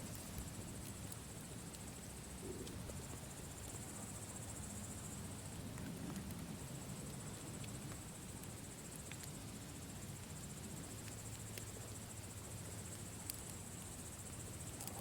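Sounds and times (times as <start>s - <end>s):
campfire crackling: 0.0s - 15.0s
crickets chirping: 0.0s - 15.0s.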